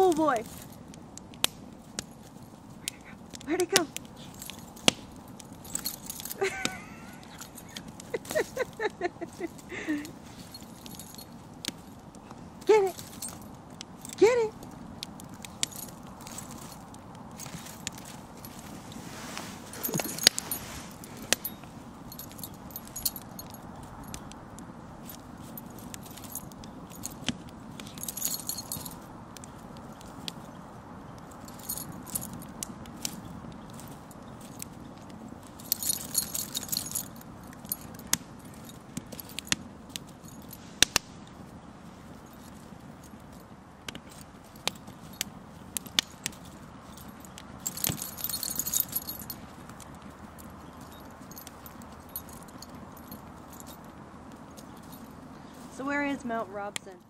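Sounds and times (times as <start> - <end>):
dog collar tags jingling: 0.0 - 57.0.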